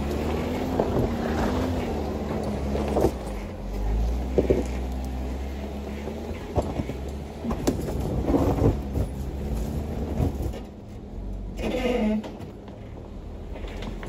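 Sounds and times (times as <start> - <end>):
car engine rumbling: 0.0 - 14.0
tires grinding on stone: 0.0 - 14.0.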